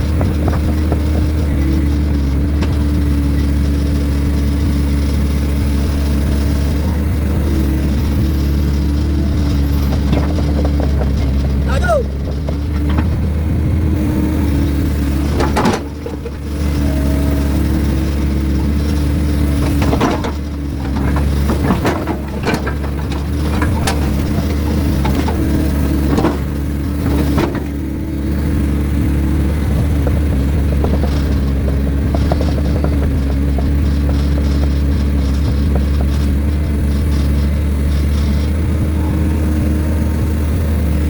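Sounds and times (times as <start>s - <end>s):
diesel excavator engine running: 0.0s - 41.0s.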